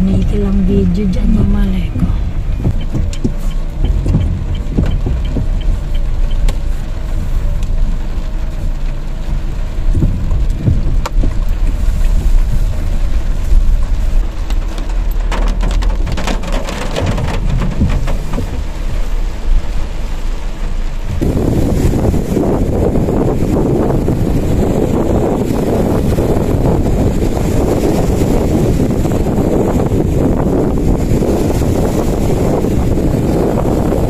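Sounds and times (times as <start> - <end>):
low car engine hum: 0.0 - 34.0
rain pattering on car roof: 0.0 - 34.0.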